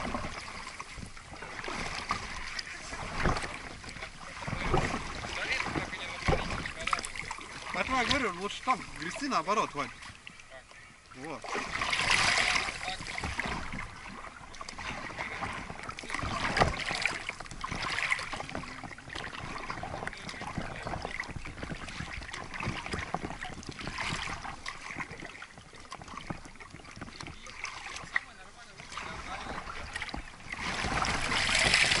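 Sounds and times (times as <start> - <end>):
water splashing around boat: 0.0 - 32.0.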